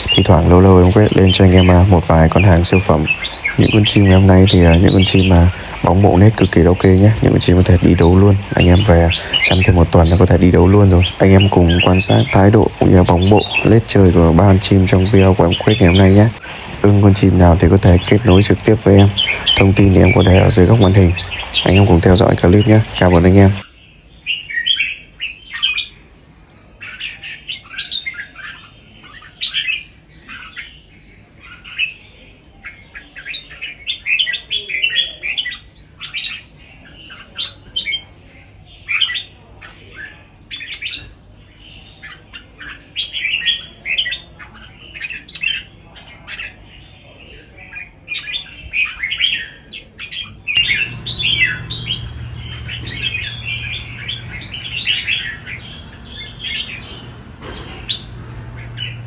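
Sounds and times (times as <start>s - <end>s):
bird song chattering phrases: 0.0s - 59.0s.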